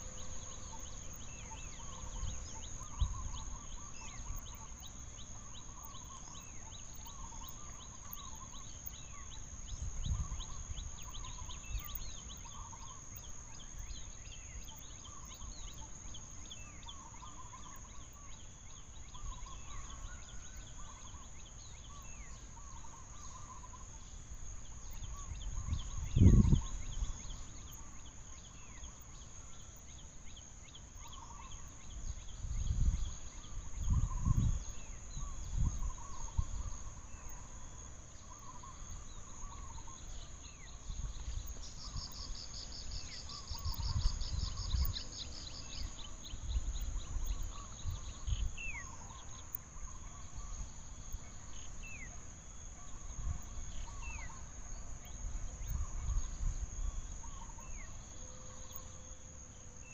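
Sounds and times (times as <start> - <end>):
insects droning: 0.0 - 59.9
rapid insect trill: 0.0 - 59.9.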